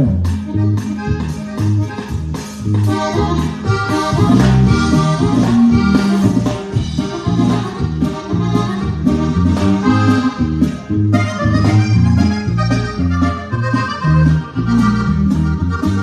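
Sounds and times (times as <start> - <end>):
accordion melody: 0.0 - 16.0
steady drum beat: 0.0 - 16.0
walking bass line: 0.0 - 16.0.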